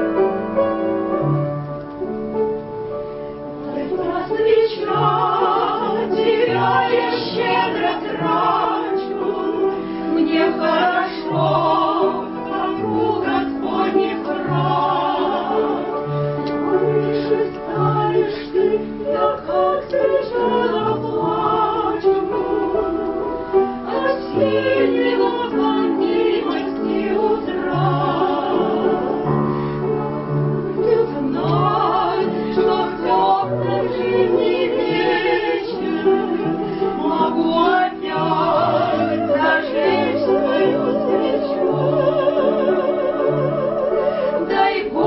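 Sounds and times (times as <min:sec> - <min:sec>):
keyboard accompaniment: 0:00.0 - 0:45.0.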